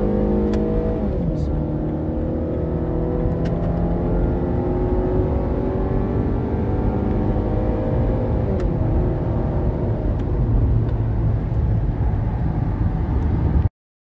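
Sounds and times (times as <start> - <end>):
car engine hum: 0.0 - 13.7.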